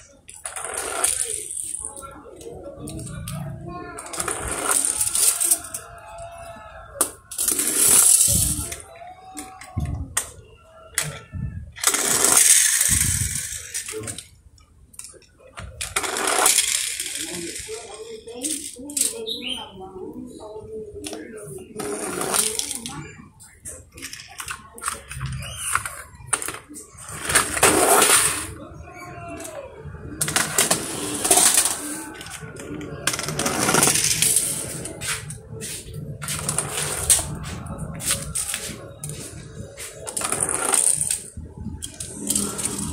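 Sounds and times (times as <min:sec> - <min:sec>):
toy car wheels rolling on concrete: 0:00.0 - 0:19.4, 0:21.0 - 0:42.9.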